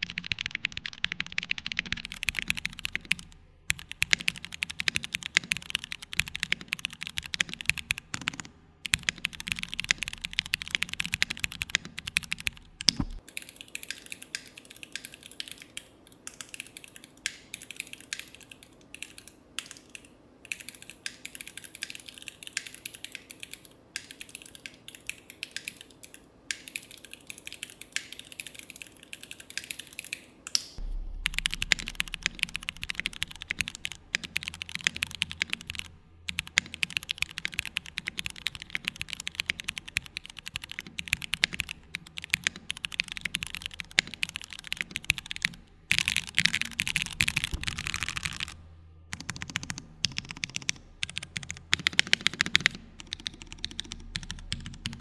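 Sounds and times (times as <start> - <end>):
mechanical keyboard typing: 0.0 - 30.3, 31.2 - 55.0.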